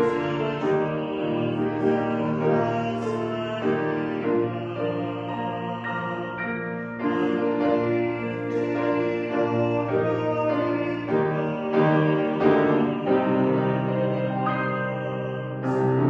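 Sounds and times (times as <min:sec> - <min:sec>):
keyboard sustained chords: 0:00.0 - 0:16.0.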